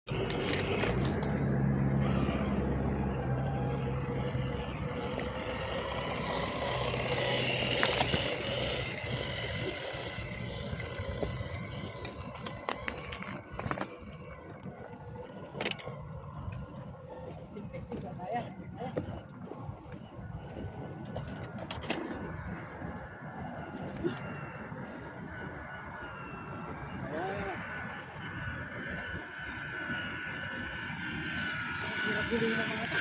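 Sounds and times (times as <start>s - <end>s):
electric motor whirring: 0.1s - 33.0s.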